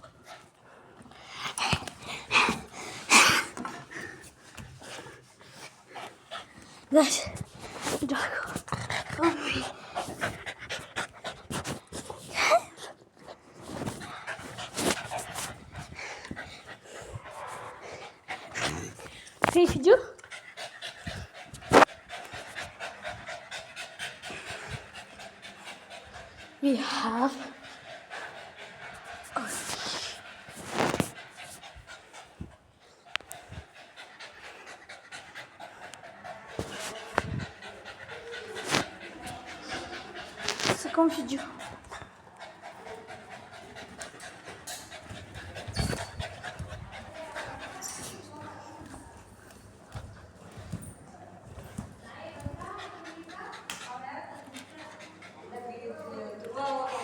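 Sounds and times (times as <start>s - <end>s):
dog panting: 0.0s - 57.0s.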